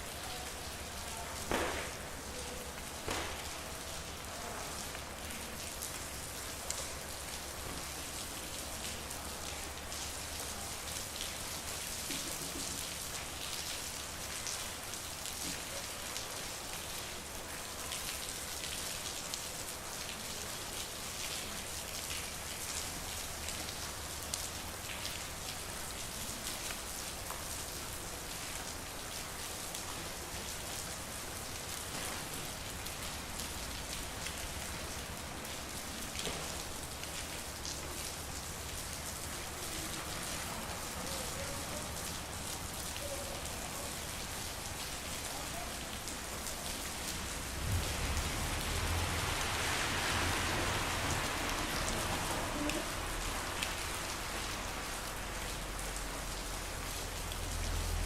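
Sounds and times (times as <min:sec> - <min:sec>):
rain falling on a street: 0:00.0 - 0:58.0.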